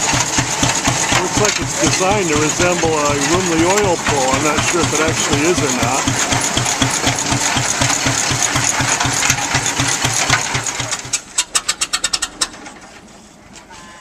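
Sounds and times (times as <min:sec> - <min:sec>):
old tractor engine thumping: 0:00.0 - 0:13.0.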